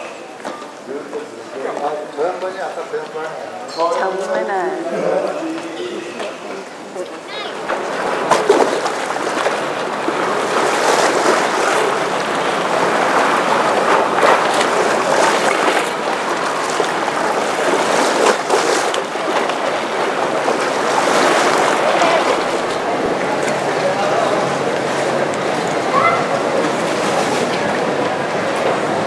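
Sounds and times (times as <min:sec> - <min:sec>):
water lapping against stone: 0:05.0 - 0:29.0.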